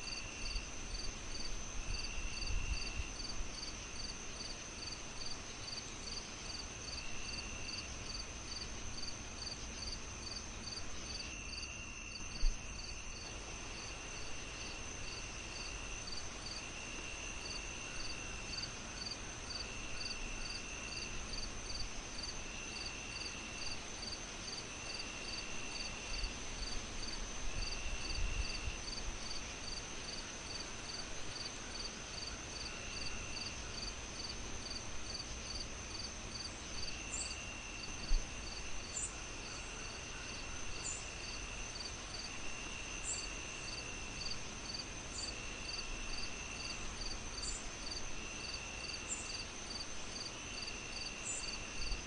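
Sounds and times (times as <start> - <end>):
crickets chirping: 0.0 - 52.0.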